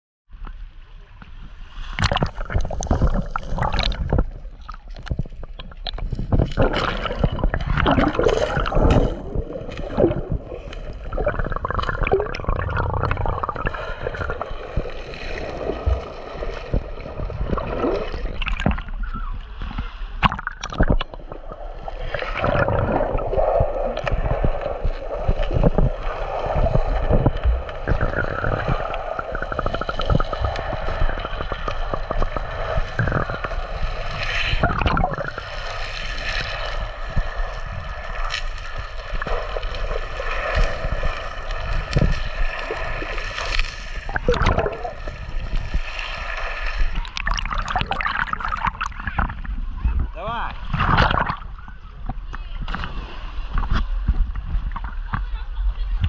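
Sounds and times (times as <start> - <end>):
water sloshing and gurgling: 1.1 - 56.0.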